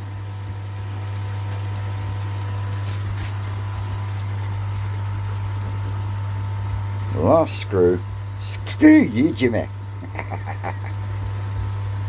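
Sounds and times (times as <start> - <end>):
low electric hum: 0.0 - 12.0
running water: 0.0 - 12.0.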